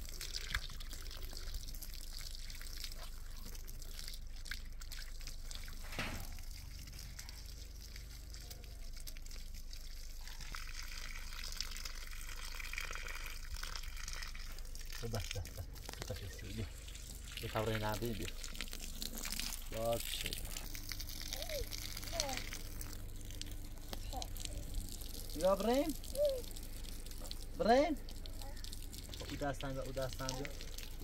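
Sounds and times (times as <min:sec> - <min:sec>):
hose water splashing into puddle: 0:00.0 - 0:31.0.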